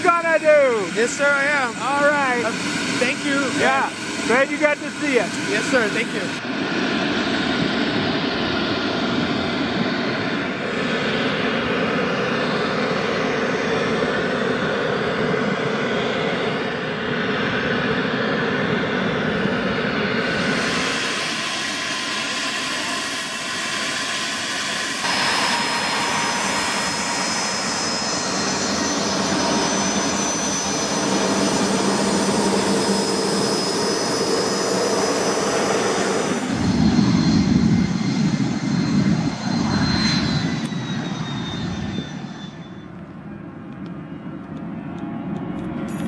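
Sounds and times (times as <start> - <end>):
jet engines with high whine: 0.0 - 46.0.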